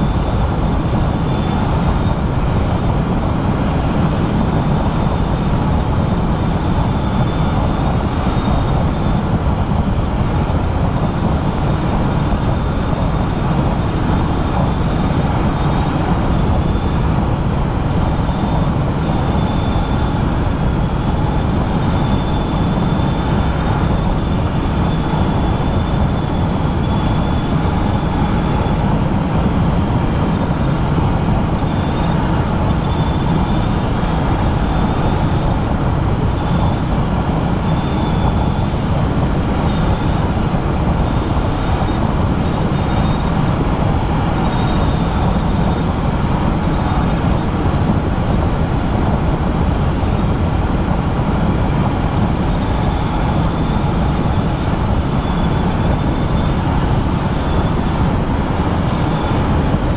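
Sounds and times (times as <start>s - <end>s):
faint high whine: 0.0s - 59.9s
helicopter engine and rotor: 0.0s - 59.9s.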